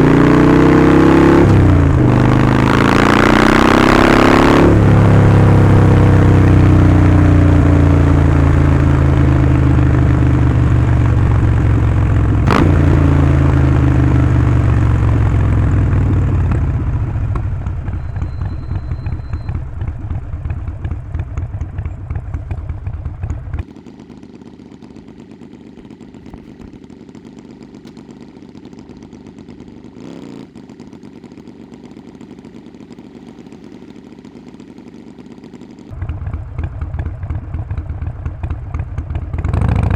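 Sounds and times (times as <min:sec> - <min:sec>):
motorcycle engine decelerating: 0:00.0 - 0:39.9
low engine rumble: 0:07.0 - 0:39.6.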